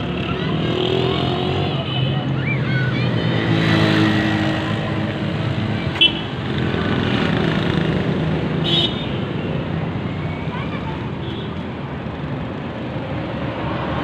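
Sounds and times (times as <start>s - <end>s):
passing cars and motorcycles: 0.0s - 14.0s.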